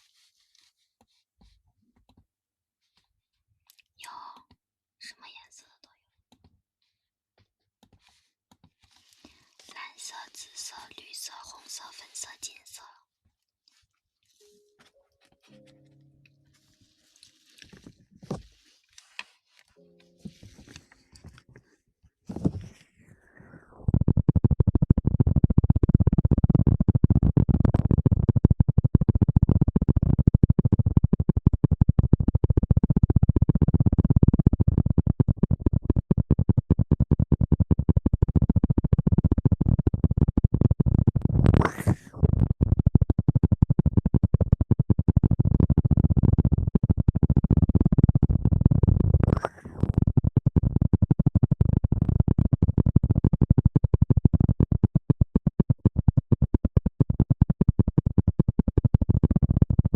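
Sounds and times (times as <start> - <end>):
scratching and rubbing on microphone: 0.0 - 1.6, 7.9 - 12.9, 16.5 - 59.9.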